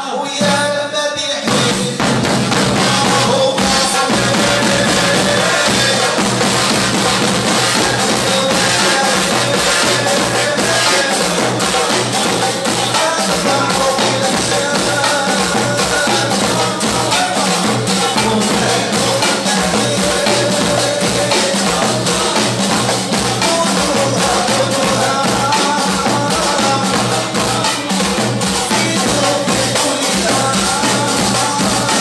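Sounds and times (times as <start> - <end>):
frame drums and hand percussion: 0.1 - 32.0.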